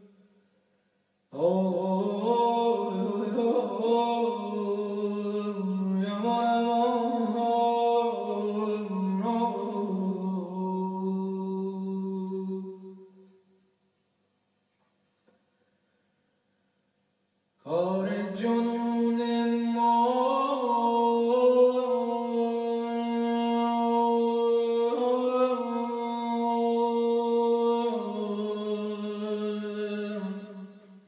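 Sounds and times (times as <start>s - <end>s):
man singing unaccompanied: 1.3s - 13.0s, 17.6s - 30.9s.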